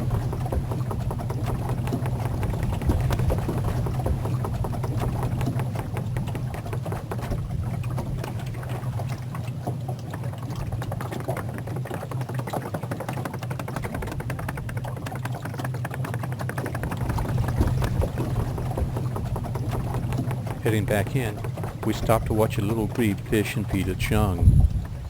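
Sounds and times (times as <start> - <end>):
small boat motor running: 0.0 - 25.0
water noise: 0.0 - 25.0.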